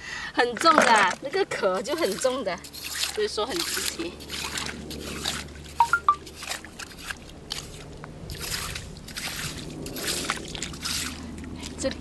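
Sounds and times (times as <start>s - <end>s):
tongs sloshing through water and mud: 1.3s - 12.0s
water splashing and dripping: 1.8s - 12.0s.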